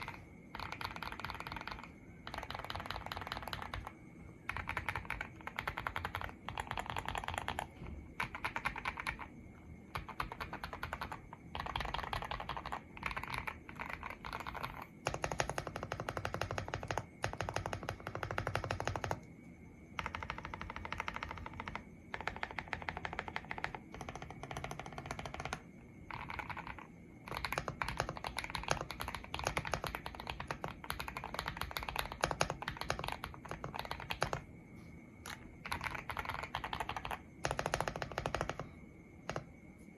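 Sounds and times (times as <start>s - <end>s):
typing on mechanical keyboard: 0.0s - 19.3s, 19.9s - 34.5s, 35.2s - 39.5s.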